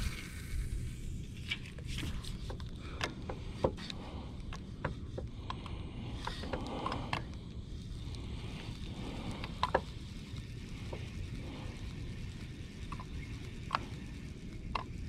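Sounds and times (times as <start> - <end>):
fishing reel clicks and taps: 1.4 - 15.0.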